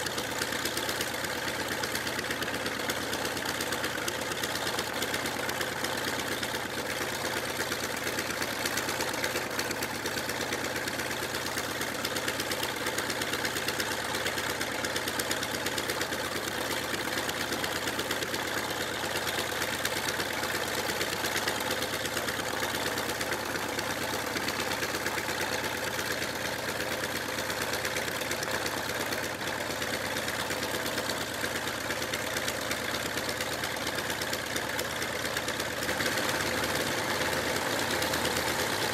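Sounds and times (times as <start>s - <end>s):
propeller aircraft engine idling: 0.0s - 38.9s.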